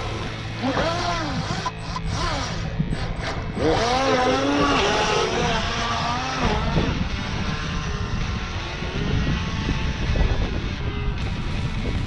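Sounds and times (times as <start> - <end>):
radio-controlled boat motors: 0.0 - 11.8.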